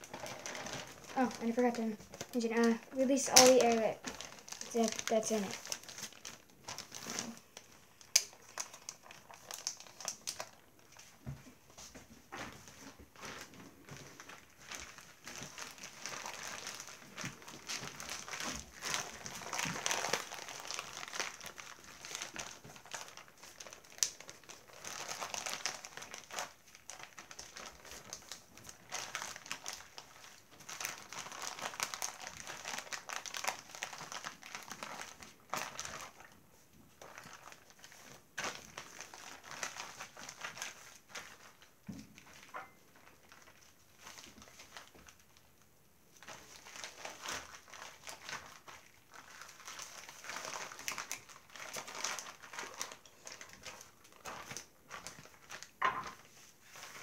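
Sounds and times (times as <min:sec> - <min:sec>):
plastic bag crinkling: 0:00.0 - 0:57.0.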